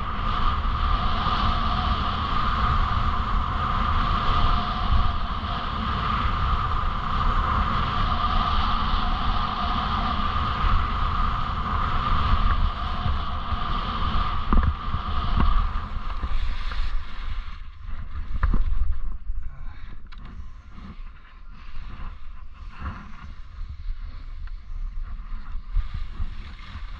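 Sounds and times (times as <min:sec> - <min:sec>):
wind buffeting microphone: 0:00.0 - 0:26.9
skis scraping over packed snow: 0:00.1 - 0:19.3, 0:20.4 - 0:26.9.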